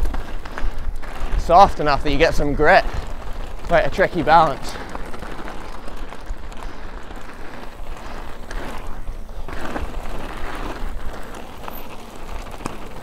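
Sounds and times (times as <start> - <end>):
bike rattling and knocking: 0.0 - 13.0
bike tyres crunching on rock and gravel: 0.0 - 13.0.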